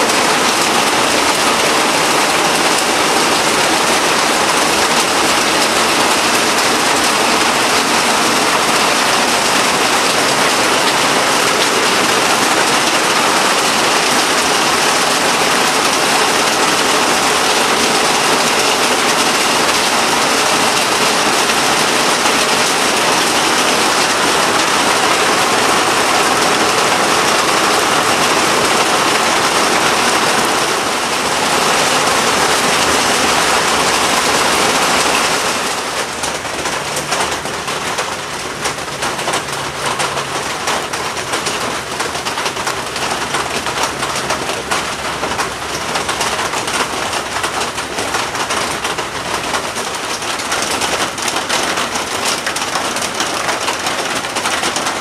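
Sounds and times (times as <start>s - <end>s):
heavy rain on floodwater: 0.0s - 55.0s.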